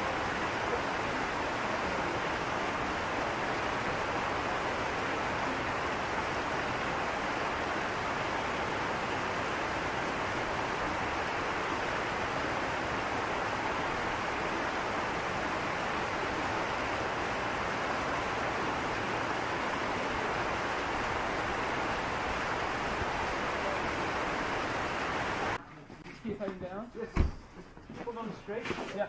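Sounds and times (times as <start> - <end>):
mountain stream rushing: 0.0 - 25.6.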